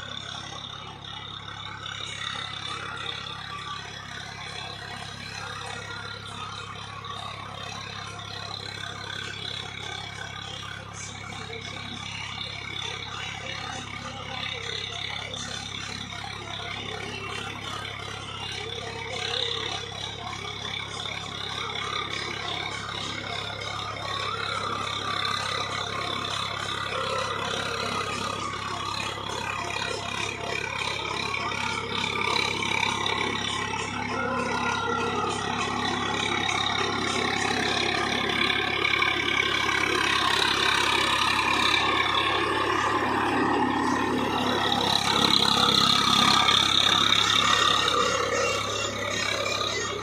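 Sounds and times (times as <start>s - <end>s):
rotary tiller churning stalks: 0.0s - 50.0s
tractor engine running: 0.0s - 50.0s.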